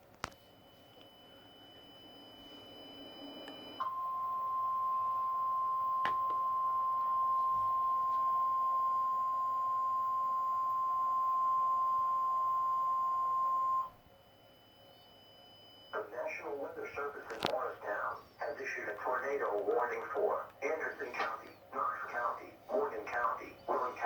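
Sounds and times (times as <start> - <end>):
steady high warning alarm tone: 0.2 - 24.0.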